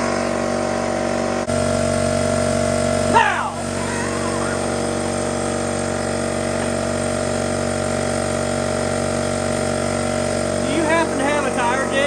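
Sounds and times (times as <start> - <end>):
air compressor motor running: 0.0 - 12.0.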